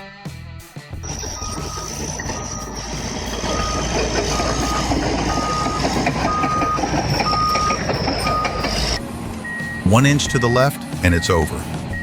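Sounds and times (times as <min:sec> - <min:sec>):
steady high whine: 0:01.0 - 0:10.7
heavy machinery running: 0:01.0 - 0:11.0
backup alarm beeping: 0:01.0 - 0:12.0.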